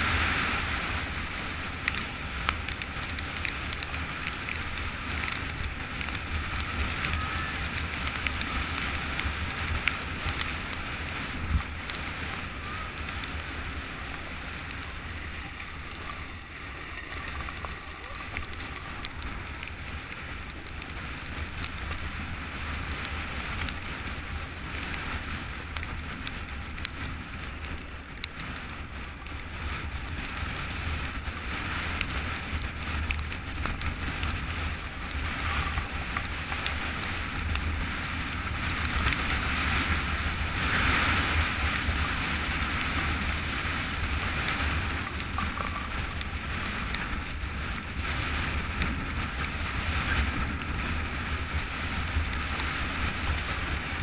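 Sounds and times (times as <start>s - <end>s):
snowboard scraping over snow: 0.0s - 54.0s
wind buffeting microphone: 0.0s - 54.0s.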